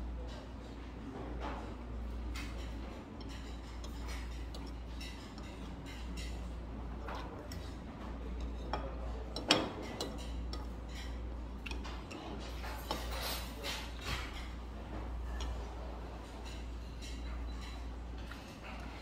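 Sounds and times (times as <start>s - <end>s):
chopsticks clinking against bowl: 1.6s - 19.0s.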